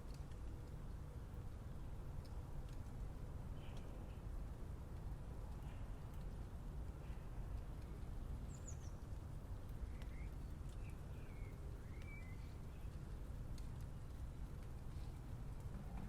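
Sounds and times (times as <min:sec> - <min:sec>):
city ambience rumble: 0:00.0 - 0:16.0.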